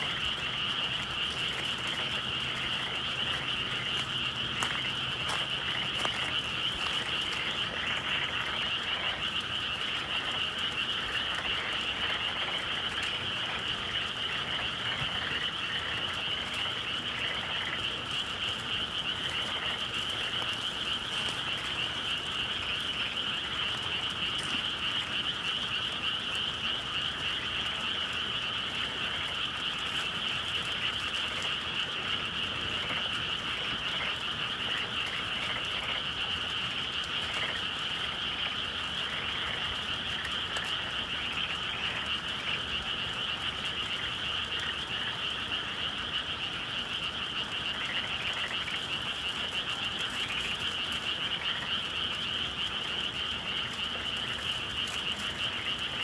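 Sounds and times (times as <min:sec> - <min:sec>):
frogs chorus calling: 0:00.0 - 0:56.0.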